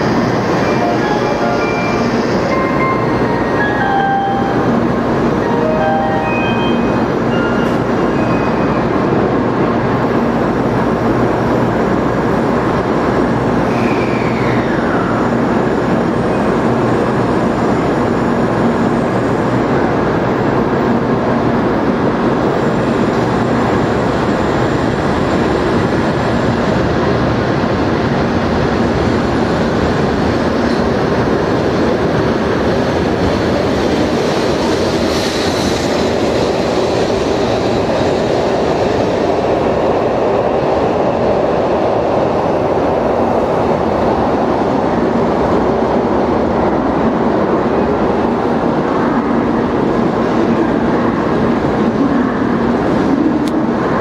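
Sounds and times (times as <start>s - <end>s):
train cars rushing past: 0.0s - 54.0s.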